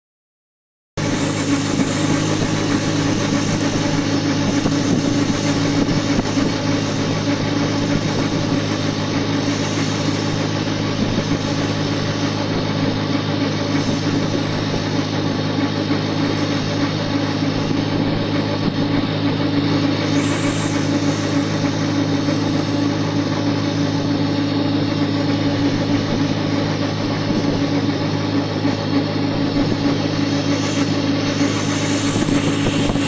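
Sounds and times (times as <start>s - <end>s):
steady mechanical hum: 1.0s - 33.0s.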